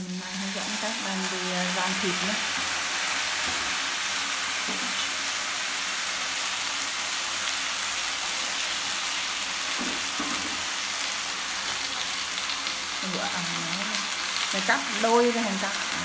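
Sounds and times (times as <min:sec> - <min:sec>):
pork sizzling in a frying pan: 0:00.0 - 0:16.0.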